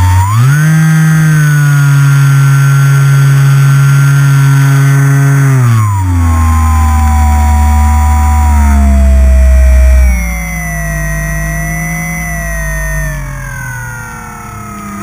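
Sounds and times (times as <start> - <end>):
electric motor spinning propeller: 0.0 - 15.0.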